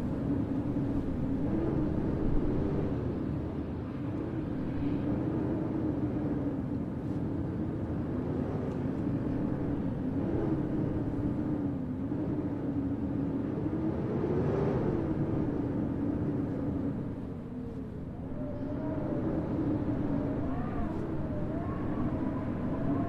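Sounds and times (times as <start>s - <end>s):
blizzard wind howling: 0.0s - 23.0s.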